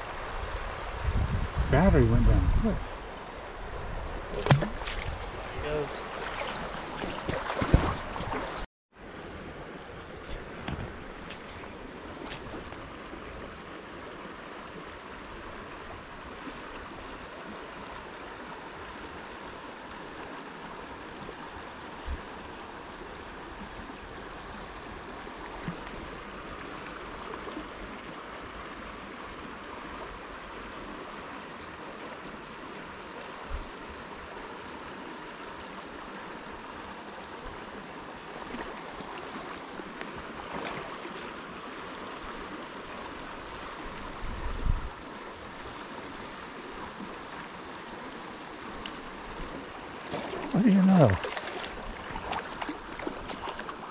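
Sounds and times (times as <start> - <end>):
creek water flowing over riffle: 0.0 - 53.9.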